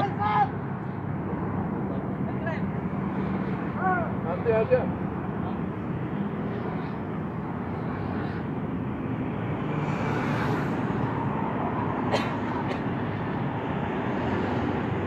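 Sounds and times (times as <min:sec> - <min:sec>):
cars and motorcycles passing: 0:00.0 - 0:15.0.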